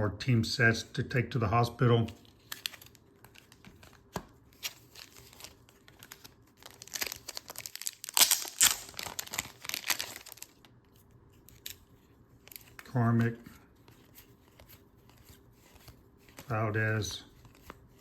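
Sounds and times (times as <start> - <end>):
cards and packaging crinkling: 2.0 - 18.0.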